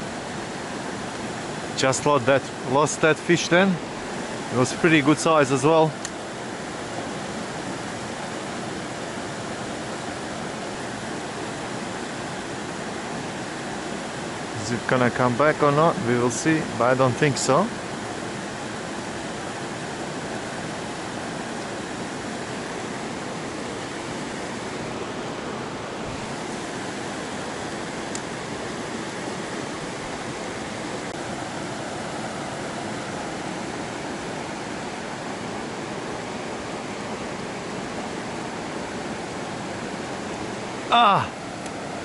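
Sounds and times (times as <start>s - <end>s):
stream flowing over rocks: 0.0s - 42.0s.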